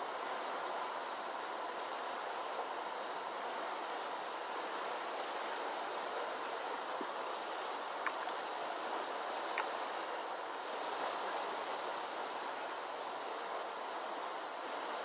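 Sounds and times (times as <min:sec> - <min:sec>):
rushing creek water: 0:00.0 - 0:15.0.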